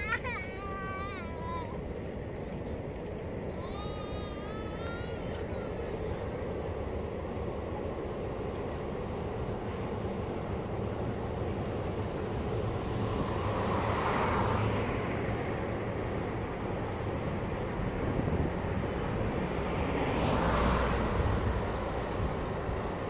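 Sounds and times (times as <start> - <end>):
freight train rumbling on rails: 0.0 - 23.0.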